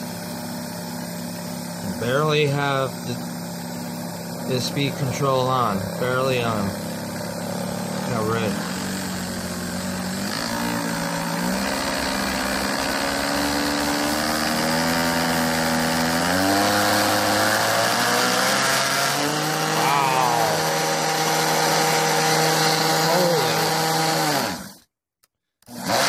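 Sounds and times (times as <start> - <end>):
electric mixer motor whining: 0.0 - 24.9, 25.6 - 26.0.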